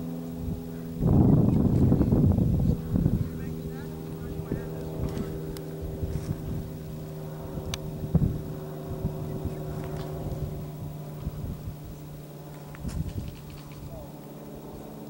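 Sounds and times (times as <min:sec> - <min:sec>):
engine humming: 0:00.0 - 0:15.0
wind buffeting microphone: 0:00.4 - 0:14.1.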